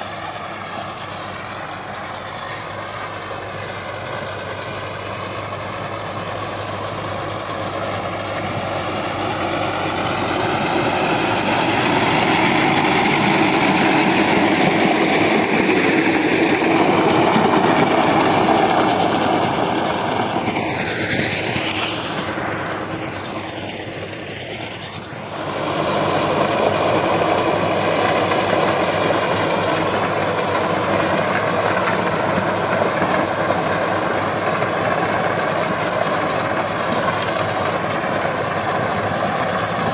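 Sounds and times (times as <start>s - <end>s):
rotavator tilling dry soil: 0.0s - 39.9s
tractor engine running under load: 0.0s - 39.9s.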